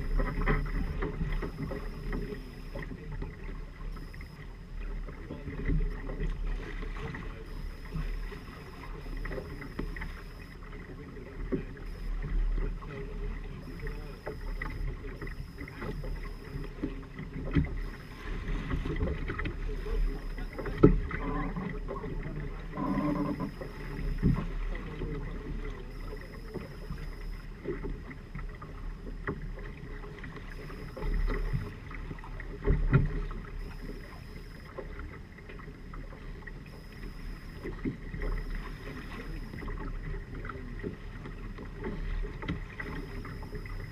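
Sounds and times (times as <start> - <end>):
water rushing along hulls: 0.0 - 43.9.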